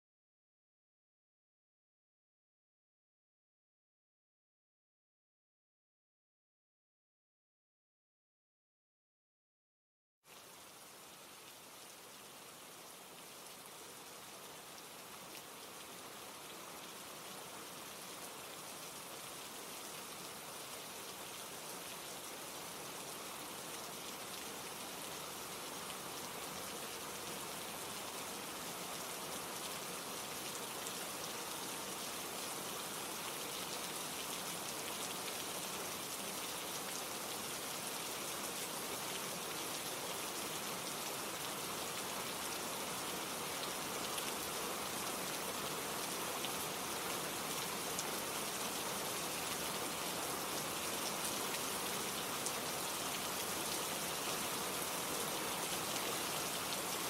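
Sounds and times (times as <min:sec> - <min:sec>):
steady rain falling: 0:10.3 - 0:57.0.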